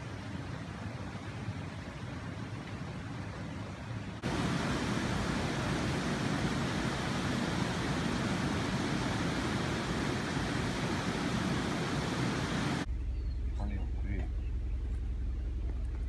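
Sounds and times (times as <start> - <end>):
stream water rushing: 0.0 - 12.9.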